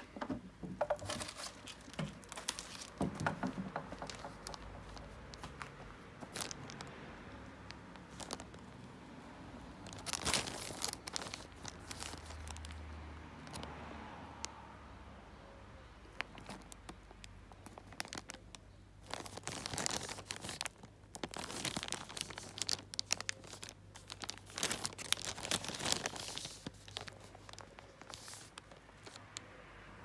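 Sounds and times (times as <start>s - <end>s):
plastic bag crinkling: 0.7s - 9.0s, 9.8s - 13.7s, 16.1s - 29.5s.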